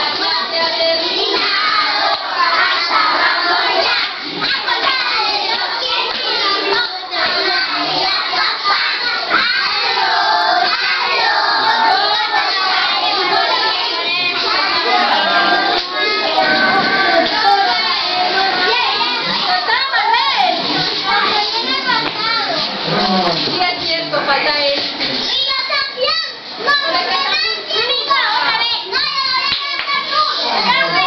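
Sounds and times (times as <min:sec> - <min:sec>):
children singing and shouting: 0:00.0 - 0:24.2, 0:24.8 - 0:31.0.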